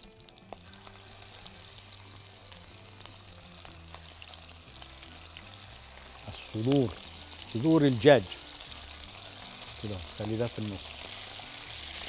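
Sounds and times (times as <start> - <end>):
chicken skin sizzling in a pan: 0.0 - 12.0.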